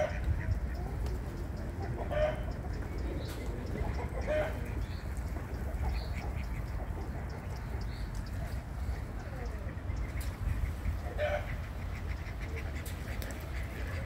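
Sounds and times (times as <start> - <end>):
steady low rumble: 0.0 - 14.0
fowl calling: 1.7 - 14.0.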